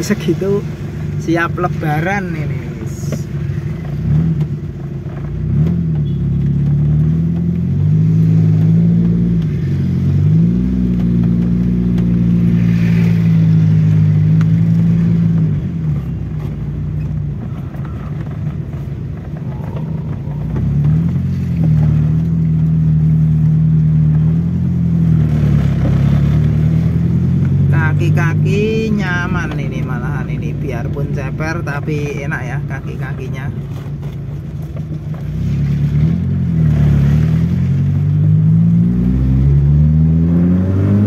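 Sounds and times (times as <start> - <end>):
car engine revving while driving: 0.0 - 41.0.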